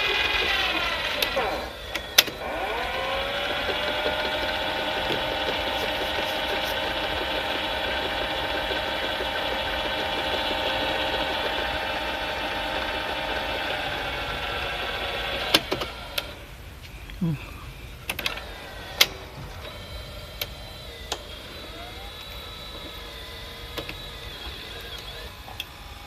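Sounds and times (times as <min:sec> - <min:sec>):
sharp mechanical clicks: 0:00.0 - 0:17.2, 0:17.8 - 0:26.0
tape transport motor whirring: 0:00.0 - 0:26.0.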